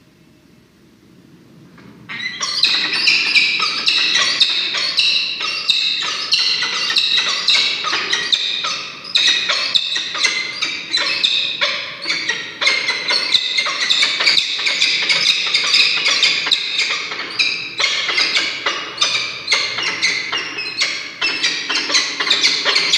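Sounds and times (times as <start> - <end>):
falcons calling: 2.1 - 22.9.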